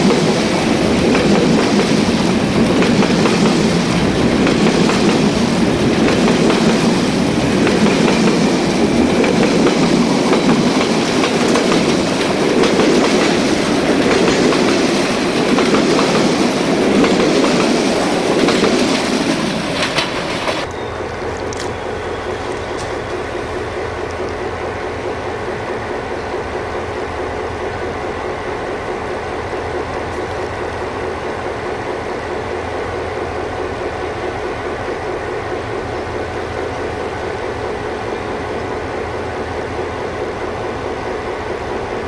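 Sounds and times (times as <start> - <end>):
train wheels clattering on rails: 0.0 - 42.0.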